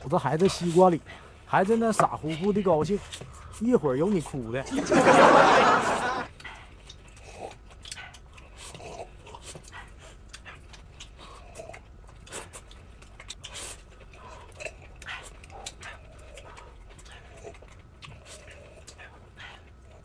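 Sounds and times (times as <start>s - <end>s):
dog panting and lapping: 0.0s - 4.8s, 5.9s - 20.0s.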